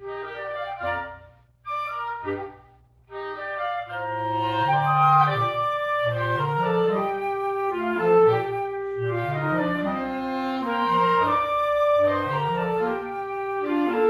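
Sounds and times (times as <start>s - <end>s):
clarinet: 0.0s - 14.0s
flute: 0.0s - 14.0s
woodwind quintet playing: 0.0s - 14.0s.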